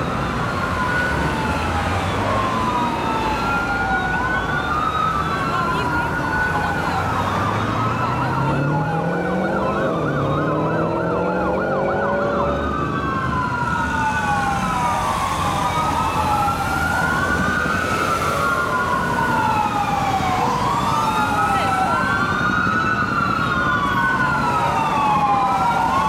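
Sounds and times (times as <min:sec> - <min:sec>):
fire engine sirens wailing: 0:00.0 - 0:26.0
siren fast yelp: 0:00.0 - 0:26.0.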